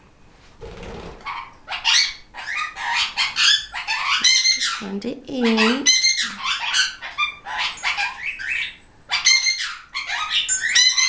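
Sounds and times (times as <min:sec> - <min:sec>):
parrots squawking and chirping: 0:00.8 - 0:11.0.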